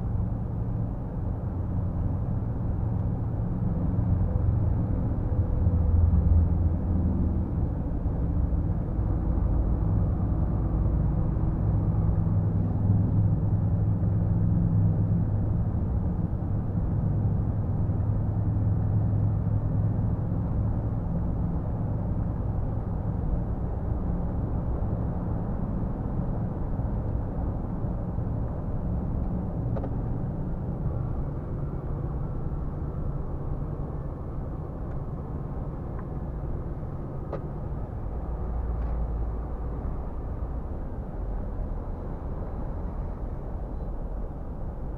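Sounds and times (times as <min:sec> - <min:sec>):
road noise: 0:00.0 - 0:44.9.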